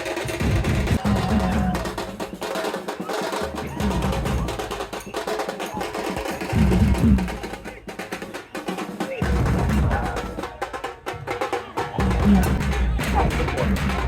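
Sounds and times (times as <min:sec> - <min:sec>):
fast sharp drum strikes: 0:00.0 - 0:14.0
heavy low drum beats: 0:00.0 - 0:14.0.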